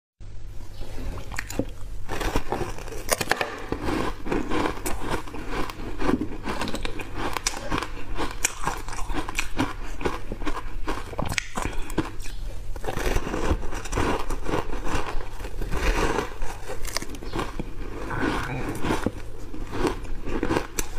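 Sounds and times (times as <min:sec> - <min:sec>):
chewing crunchy ice: 0:01.2 - 0:20.9.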